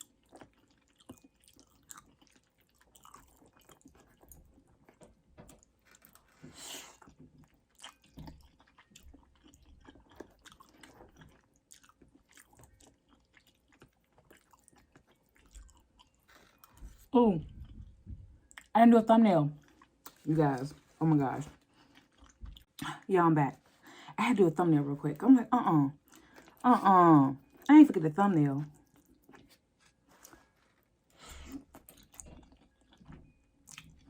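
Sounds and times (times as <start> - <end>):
person chewing food: 0.0 - 18.7, 19.6 - 22.8, 26.0 - 26.6, 28.7 - 34.0.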